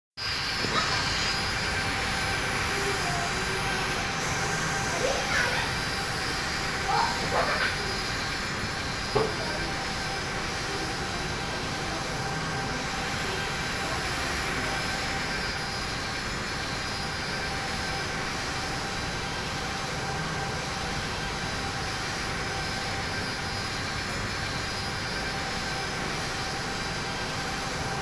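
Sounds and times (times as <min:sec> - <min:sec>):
airplane engine rush: 0:00.2 - 0:28.0.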